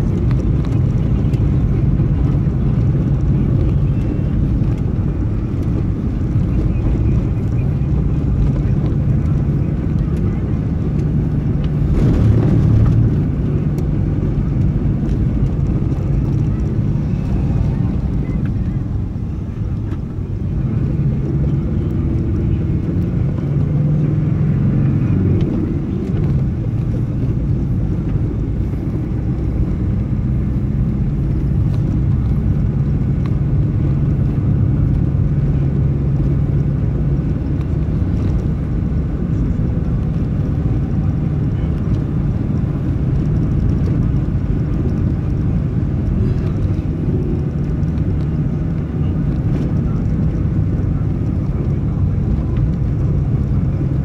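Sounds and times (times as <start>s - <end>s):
road and wind noise: 0.0s - 54.0s
vehicle engine hum: 0.0s - 54.0s.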